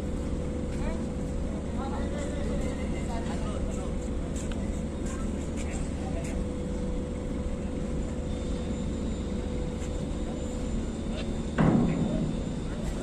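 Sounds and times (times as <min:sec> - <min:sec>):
low drone of heavy machinery: 0:00.0 - 0:13.0.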